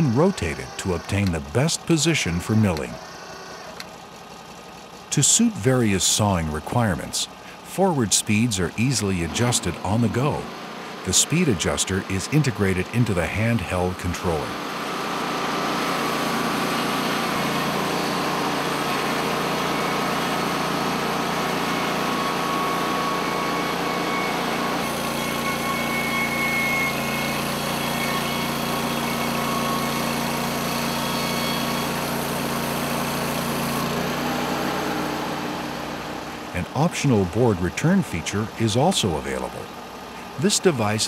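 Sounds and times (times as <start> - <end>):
band sawmill running: 0.0 - 41.0.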